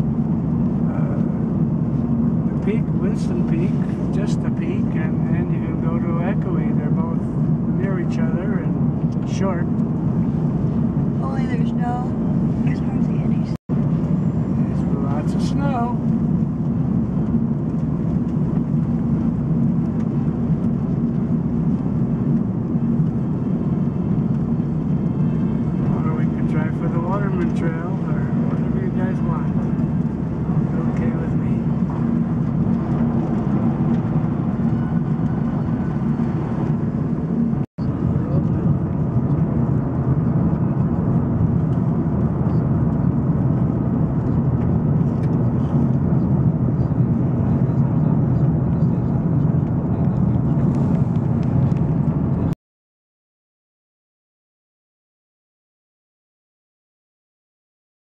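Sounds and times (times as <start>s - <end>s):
car engine drone: 0.0s - 52.6s
road noise: 0.0s - 52.6s.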